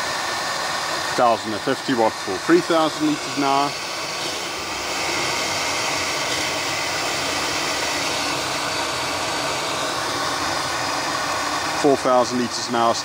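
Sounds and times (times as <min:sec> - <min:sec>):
pump running: 0:00.0 - 0:13.0
water rushing through pipes: 0:00.0 - 0:13.0.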